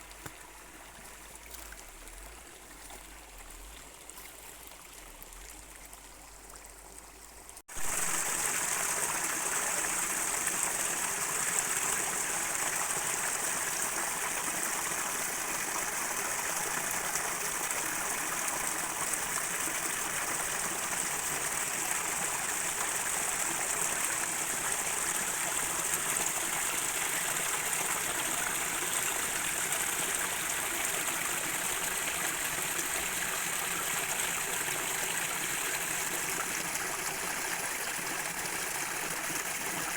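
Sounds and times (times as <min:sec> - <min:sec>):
stream water rushing: 0:07.7 - 0:39.9.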